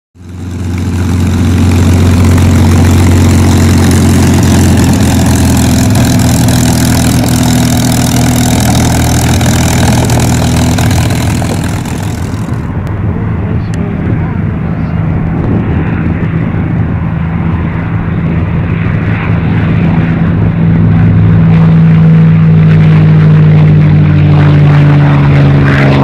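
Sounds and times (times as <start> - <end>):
propeller plane engine running: 0.2 - 26.0.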